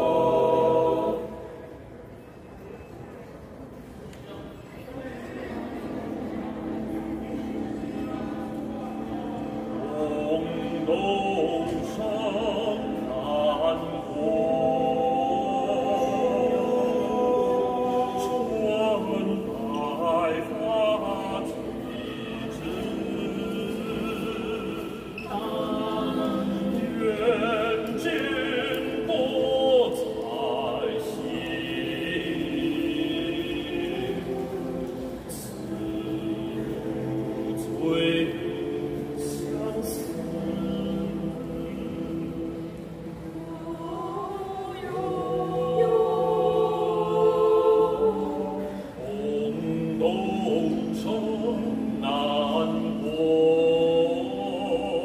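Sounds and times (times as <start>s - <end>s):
choir singing sustained chords: 0.0s - 2.2s, 5.3s - 55.0s.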